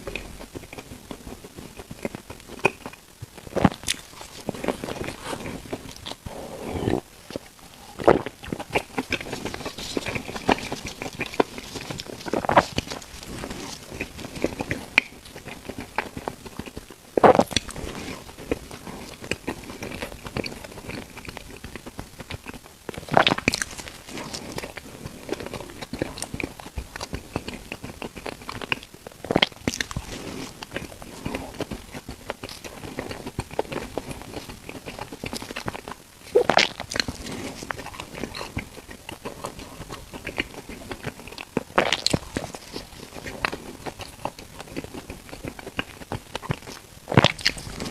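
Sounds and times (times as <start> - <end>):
biting bread: 0.0 - 47.9
wet chewing: 0.0 - 47.9.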